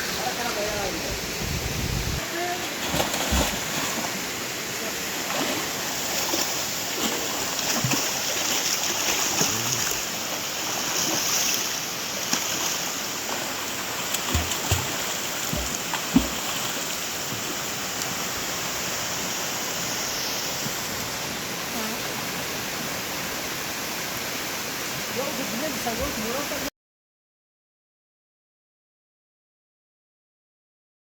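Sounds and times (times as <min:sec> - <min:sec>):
waterfall rushing: 0:00.0 - 0:26.7.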